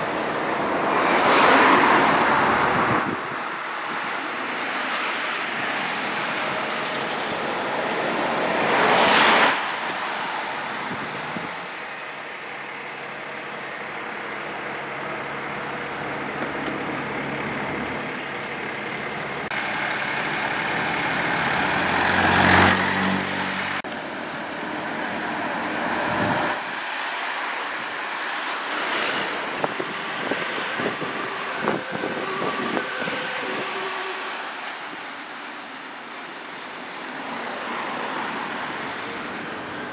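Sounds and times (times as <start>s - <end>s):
heavy truck engine: 0.0s - 39.9s
road traffic: 0.0s - 39.9s
vehicles passing close: 0.0s - 39.9s.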